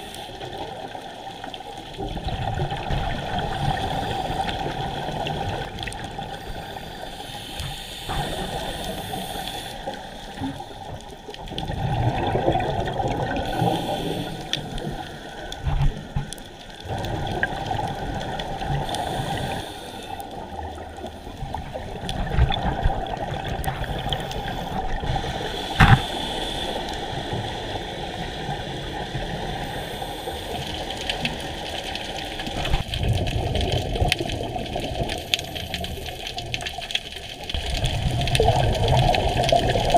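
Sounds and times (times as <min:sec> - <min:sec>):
diver's bubbles gurgling underwater: 0:00.6 - 0:06.4, 0:08.0 - 0:19.7, 0:20.3 - 0:39.9.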